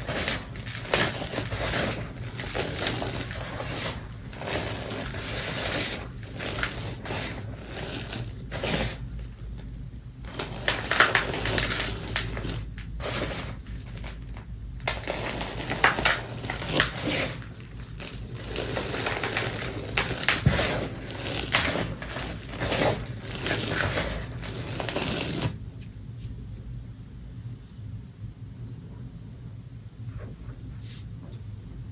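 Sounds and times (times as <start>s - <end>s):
chalk crushed by hand: 0.0s - 26.6s.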